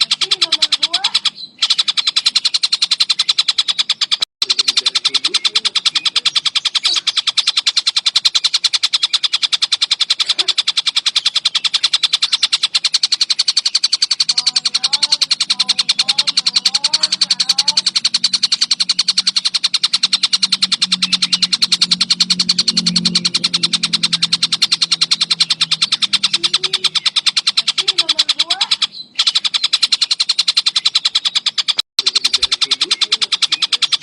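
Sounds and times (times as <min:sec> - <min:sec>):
kingfisher calling rapid high notes: 0:00.0 - 0:34.0.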